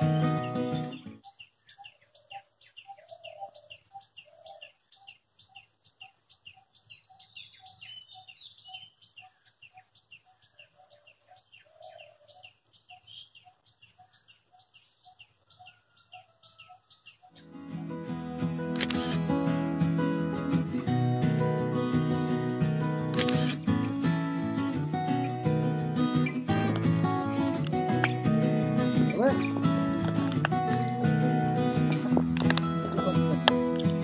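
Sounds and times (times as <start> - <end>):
birds chirping and twittering: 0.0 - 19.6, 20.3 - 34.0.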